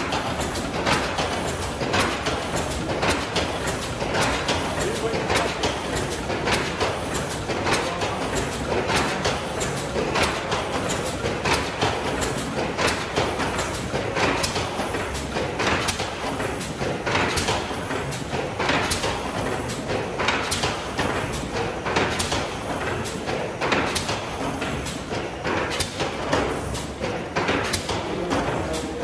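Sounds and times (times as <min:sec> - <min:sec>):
steam engine whooshing and knocking: 0:00.0 - 0:29.0.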